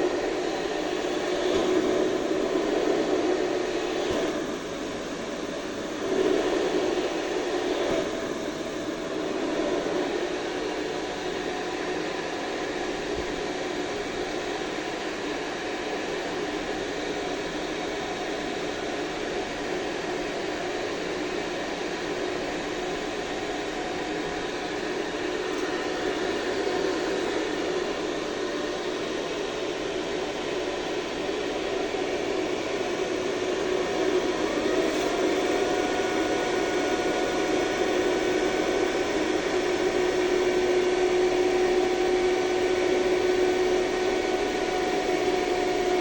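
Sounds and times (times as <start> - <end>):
ventilation fan whooshing: 0.0 - 16.0, 21.8 - 46.0.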